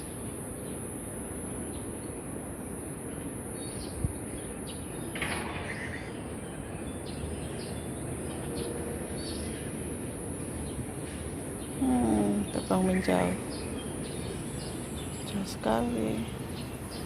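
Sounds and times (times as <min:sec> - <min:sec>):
birds chirping: 0:03.0 - 0:17.0.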